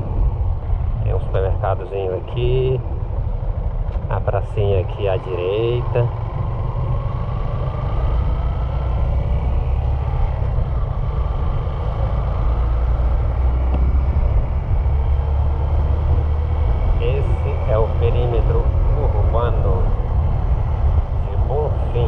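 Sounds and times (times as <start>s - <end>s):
car engine and road noise rumble: 0.0s - 22.0s.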